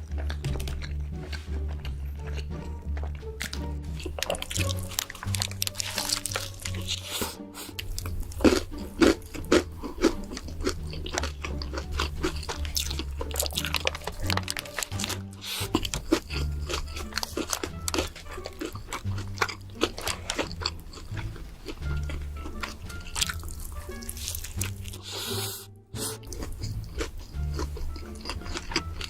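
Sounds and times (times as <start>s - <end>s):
background music with bass line: 0.0s - 29.0s
crunchy biting and chewing: 0.0s - 29.0s.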